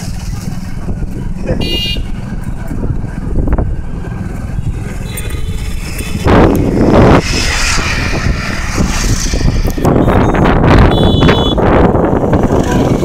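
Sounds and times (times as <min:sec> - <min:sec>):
road travel rumble: 0:00.0 - 0:13.0
rush of noise: 0:00.0 - 0:13.0
wind on microphone: 0:00.0 - 0:13.0.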